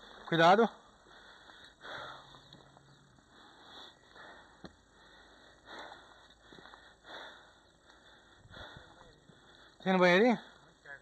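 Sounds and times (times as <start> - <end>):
faint breathing: 0.0 - 11.0.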